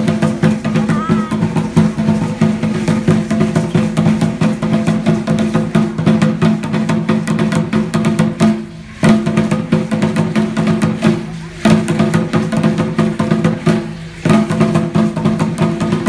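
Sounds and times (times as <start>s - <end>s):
deep drum beating fast: 0.0s - 16.0s.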